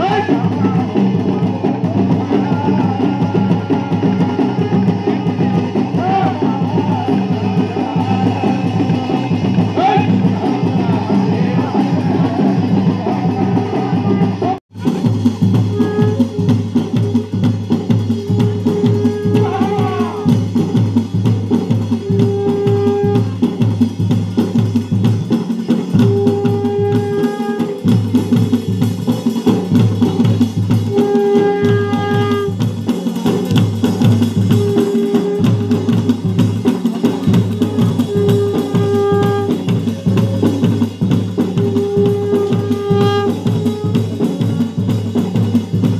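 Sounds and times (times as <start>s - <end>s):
fast ritual drumming: 0.0s - 45.9s.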